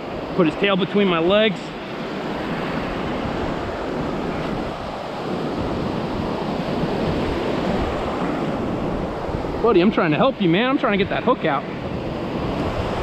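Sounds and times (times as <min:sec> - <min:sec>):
surf washing over shallows: 0:00.0 - 0:13.0
wind rumbling on microphone: 0:00.0 - 0:13.0.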